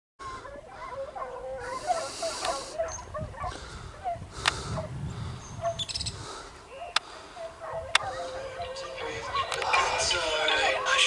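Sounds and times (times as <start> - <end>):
dogs yelping and baying: 0.2 - 11.0.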